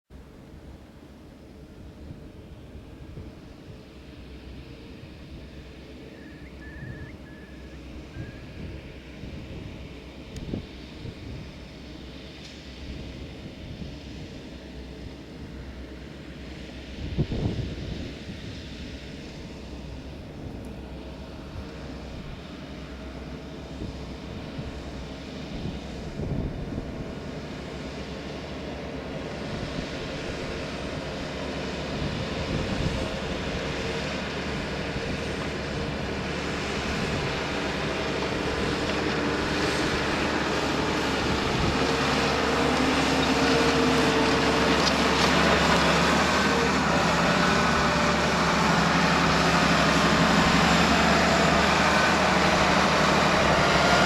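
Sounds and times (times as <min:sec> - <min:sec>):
tractor diesel engine under load: 0:00.1 - 0:54.0.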